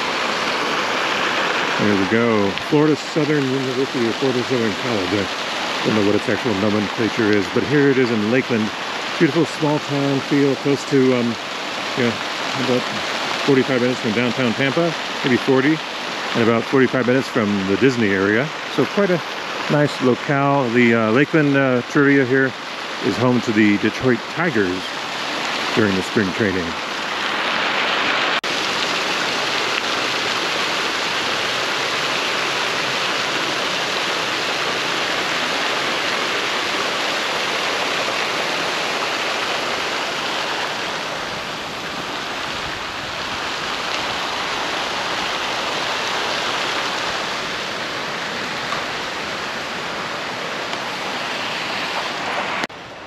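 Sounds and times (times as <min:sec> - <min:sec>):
fountain water splashing: 0:00.0 - 0:53.0.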